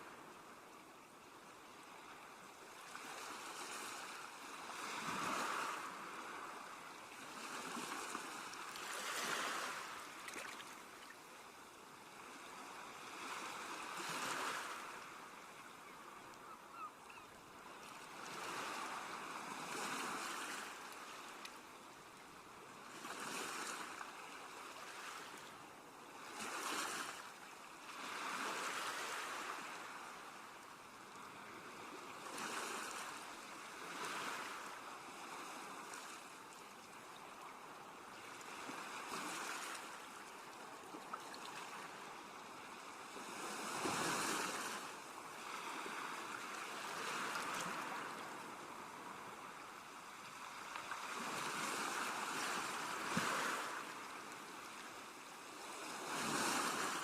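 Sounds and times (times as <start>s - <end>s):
sea waves washing ashore: 1.6s - 57.0s.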